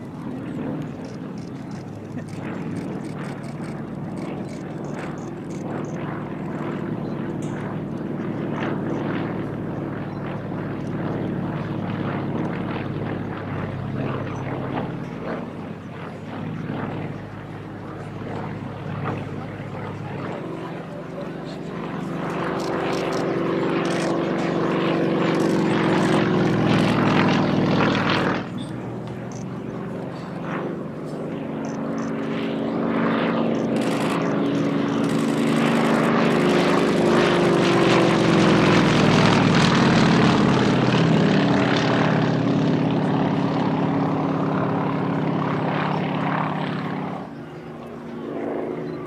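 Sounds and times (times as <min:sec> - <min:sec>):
propeller aircraft flying by: 0:00.0 - 0:49.0.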